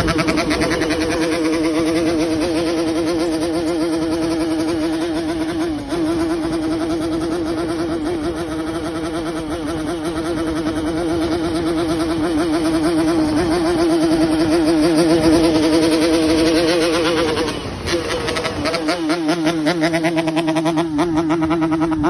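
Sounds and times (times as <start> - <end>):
two-stroke motorcycle engine buzzing: 0.0 - 22.0.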